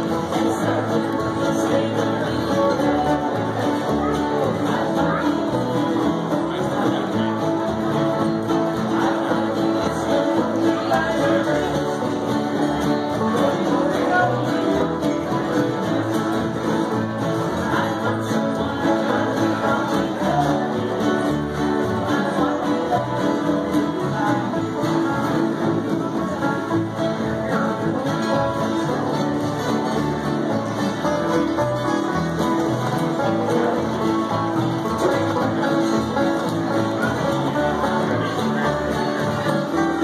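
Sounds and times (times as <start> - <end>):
acoustic guitars: 0.0 - 40.0
mandolin: 0.0 - 40.0
upright bass: 0.0 - 40.0.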